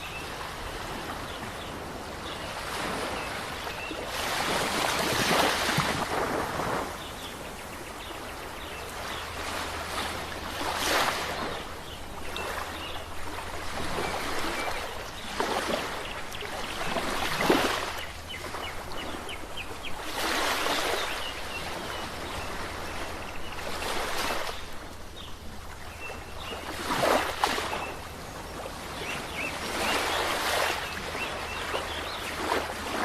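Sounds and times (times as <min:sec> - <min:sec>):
sea waves breaking on shore: 0:00.0 - 0:33.0.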